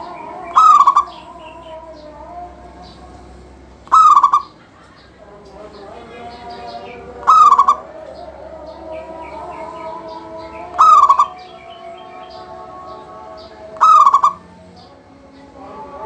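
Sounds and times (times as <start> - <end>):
birds chirping: 0.0 - 16.0
dove calling with stuttering trill: 0.0 - 16.0.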